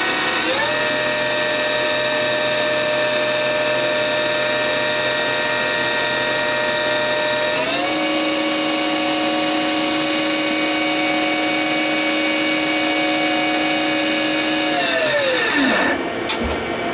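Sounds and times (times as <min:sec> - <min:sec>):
lathe spindle whining: 0:00.0 - 0:16.1.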